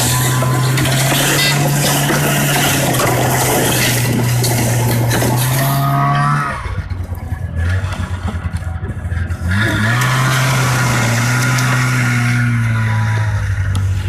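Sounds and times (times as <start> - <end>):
petrol engine revving: 0.0 - 14.0.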